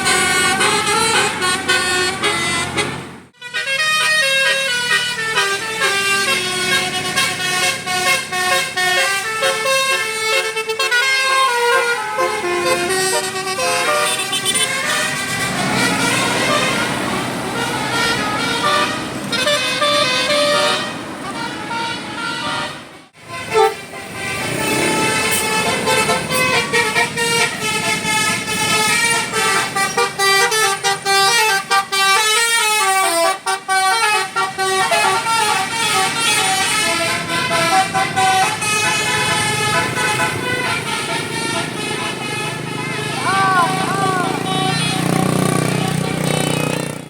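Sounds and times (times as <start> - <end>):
multi-tone bus horn melody: 0.0 - 47.0.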